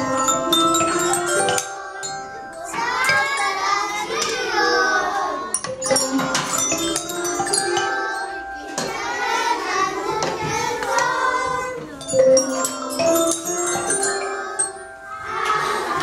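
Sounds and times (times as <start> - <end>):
children singing: 0.0 - 16.0
metallophones and xylophones ringing: 0.0 - 16.0.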